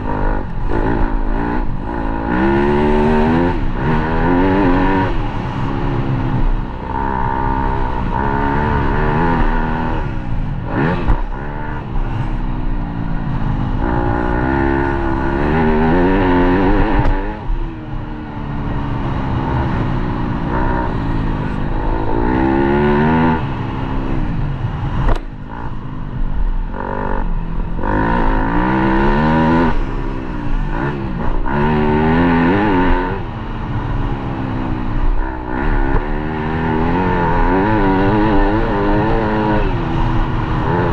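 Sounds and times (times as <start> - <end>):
dirt bike engine revving: 0.0 - 25.8, 26.6 - 40.9.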